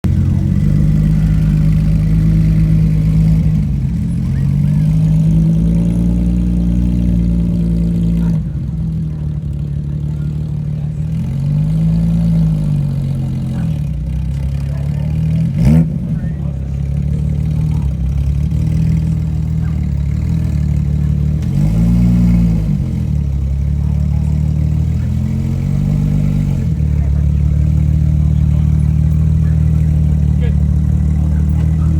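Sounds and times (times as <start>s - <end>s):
loud car engine and exhaust: 0.0s - 31.9s.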